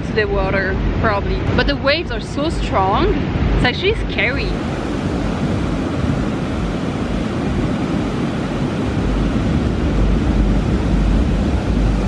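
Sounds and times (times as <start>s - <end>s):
surf breaking on a beach: 0.0s - 12.0s
wind rumbling on microphone: 0.0s - 12.0s.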